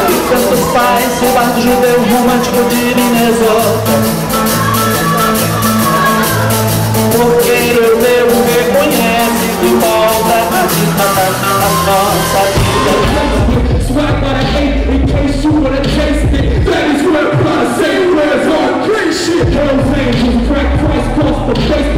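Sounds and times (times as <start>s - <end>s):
music with heavy deep bass: 0.0s - 21.9s
rock music with singing: 0.0s - 21.9s.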